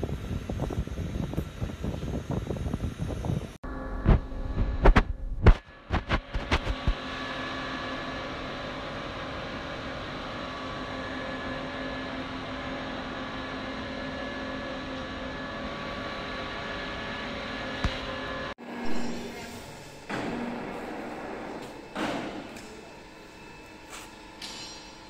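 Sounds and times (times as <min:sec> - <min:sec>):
mechanical hum with steady tones: 0:00.0 - 0:25.0.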